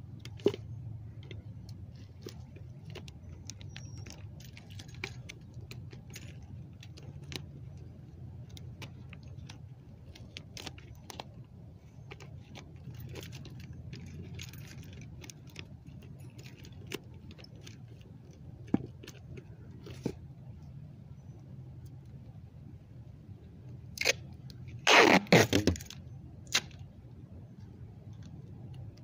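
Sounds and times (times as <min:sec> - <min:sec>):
light clicks and rattles: 0:00.0 - 0:24.8, 0:25.4 - 0:29.0.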